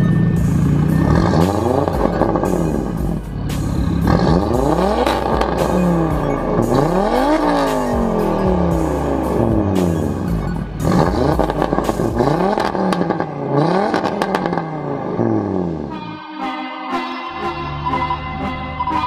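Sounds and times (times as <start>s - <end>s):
car engine revving: 0.0s - 16.2s.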